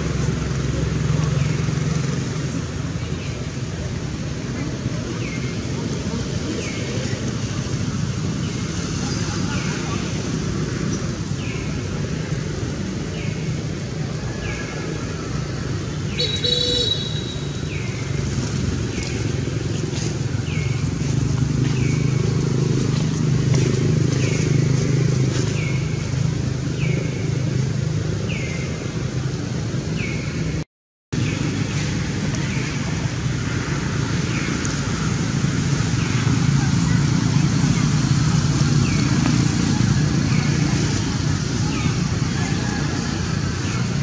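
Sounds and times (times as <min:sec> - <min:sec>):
distant vehicle traffic rumble: 0:00.0 - 0:44.0.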